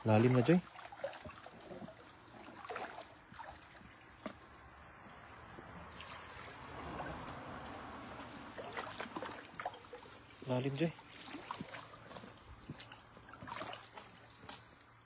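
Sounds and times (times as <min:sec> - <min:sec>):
boots wading through water: 0:00.0 - 0:15.0.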